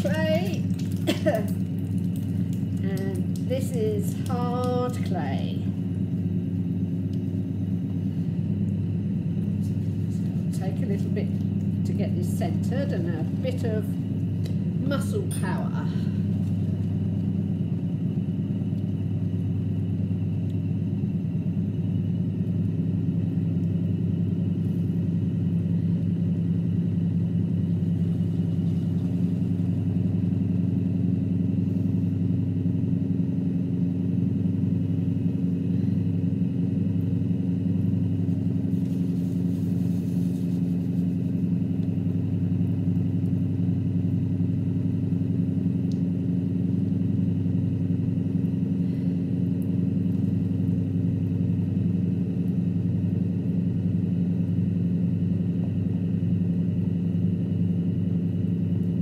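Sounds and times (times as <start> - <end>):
wet clay being shaped by hand: 0.0 - 15.2, 15.8 - 57.1
potter's wheel motor humming: 0.0 - 59.0.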